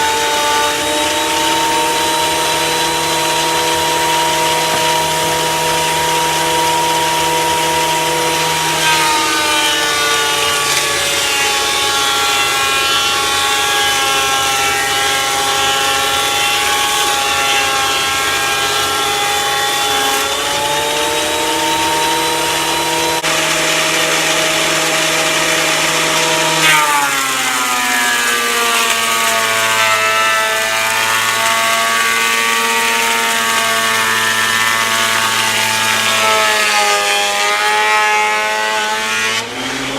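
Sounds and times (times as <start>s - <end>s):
thickness planer motor whine: 0.0s - 39.9s.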